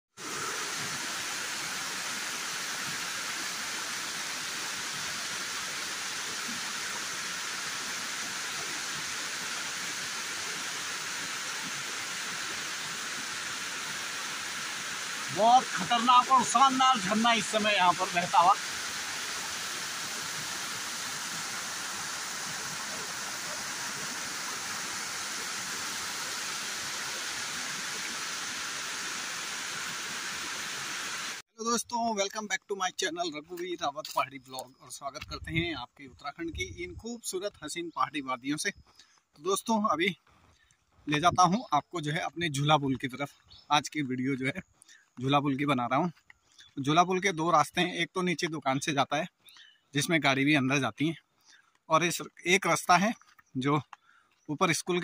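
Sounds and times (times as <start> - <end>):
water pouring over rocks: 0.2 - 49.3, 50.0 - 55.0.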